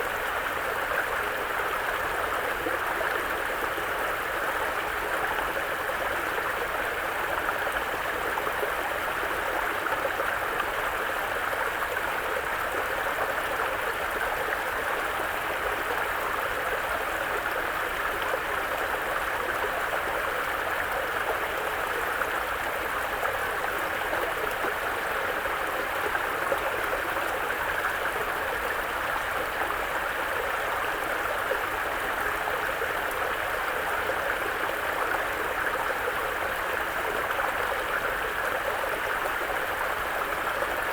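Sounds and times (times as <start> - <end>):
brook babbling over rocks: 0.0 - 40.9.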